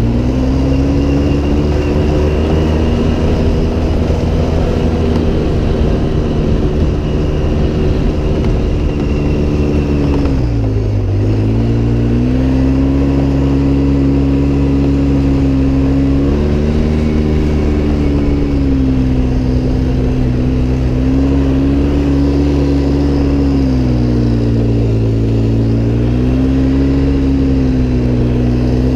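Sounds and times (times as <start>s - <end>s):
off-road vehicle engine running: 0.0s - 28.9s.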